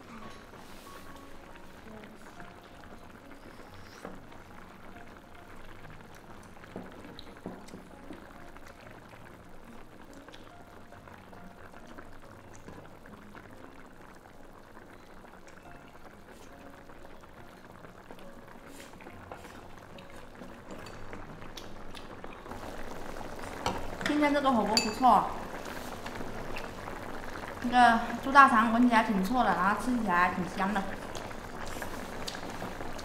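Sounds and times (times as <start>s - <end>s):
broth bubbling at a boil: 0.0s - 33.0s.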